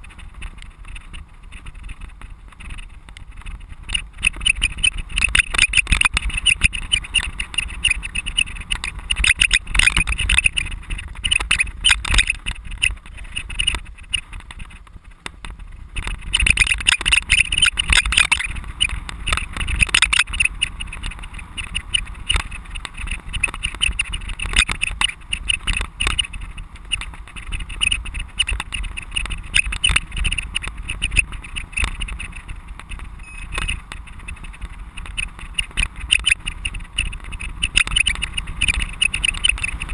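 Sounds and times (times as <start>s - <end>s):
camera rattling on bike: 0.0s - 39.9s.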